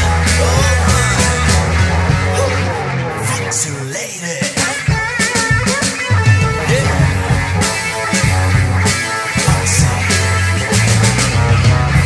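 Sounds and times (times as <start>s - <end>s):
bass: 0.0s - 3.8s, 6.1s - 12.0s
drums: 0.0s - 12.0s
electric guitar rock lead: 0.0s - 12.0s.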